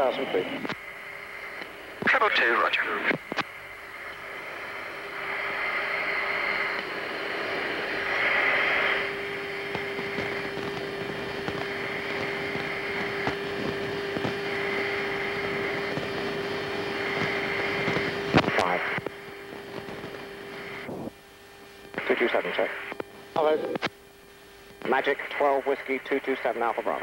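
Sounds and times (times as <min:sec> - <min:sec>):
radio hiss: 0:00.0 - 0:27.0
steady electrical hum: 0:00.0 - 0:27.0.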